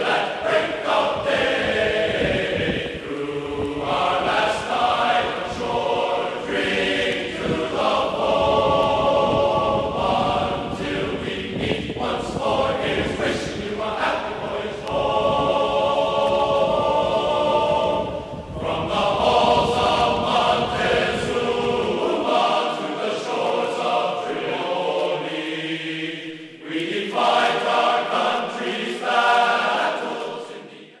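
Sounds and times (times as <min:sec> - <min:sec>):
choir-like voices holding chords: 0:00.0 - 0:31.0.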